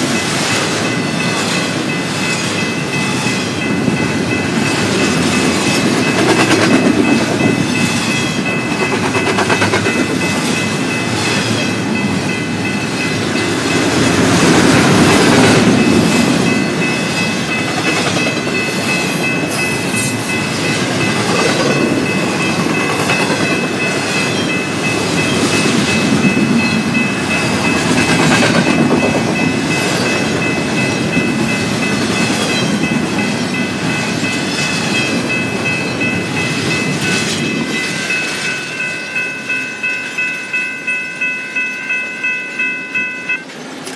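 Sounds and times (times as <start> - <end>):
freight train rumbling past: 0.0 - 43.9
steady high-pitched tones: 0.1 - 43.5.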